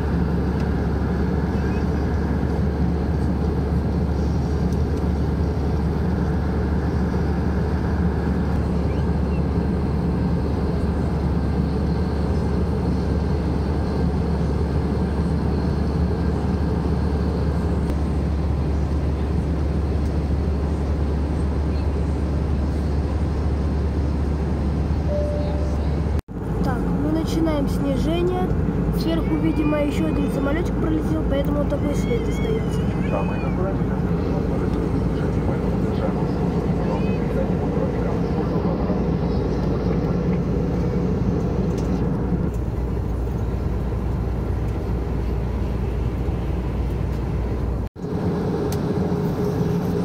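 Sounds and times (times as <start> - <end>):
jet engine rumble: 0.0 - 50.0.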